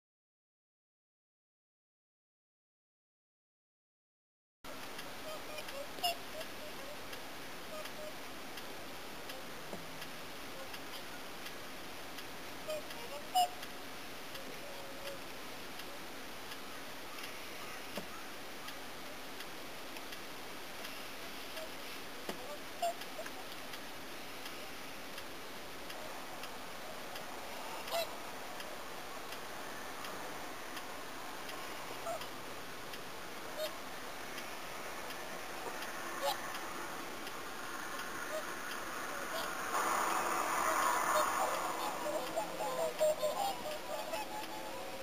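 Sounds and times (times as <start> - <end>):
steady background hiss: 4.7 - 45.0
swans calling: 5.0 - 45.0.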